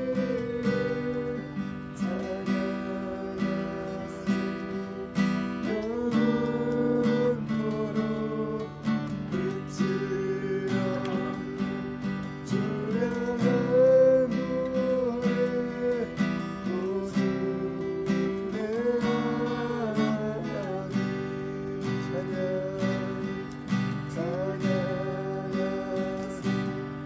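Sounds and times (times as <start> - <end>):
acoustic guitar strumming: 0.0 - 27.0
held melody line: 0.0 - 27.0.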